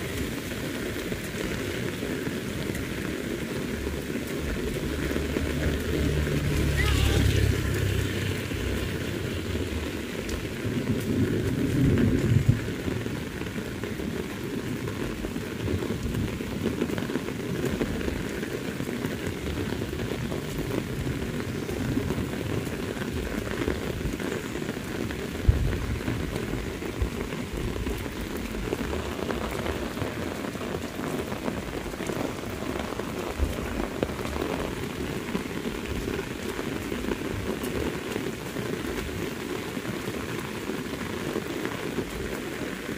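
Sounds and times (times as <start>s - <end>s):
heavy rain on pavement: 0.0s - 42.9s.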